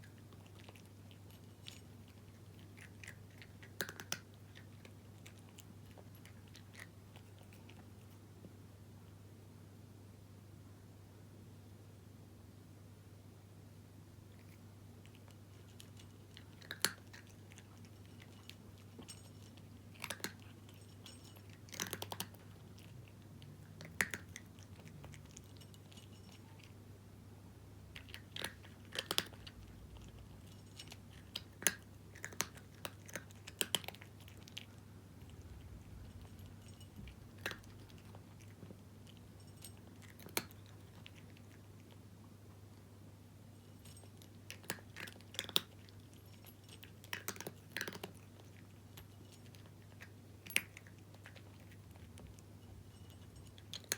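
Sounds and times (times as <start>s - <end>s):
cat crunching dry kibble: 0.0s - 8.5s, 14.3s - 26.8s, 27.9s - 42.9s, 43.5s - 53.9s.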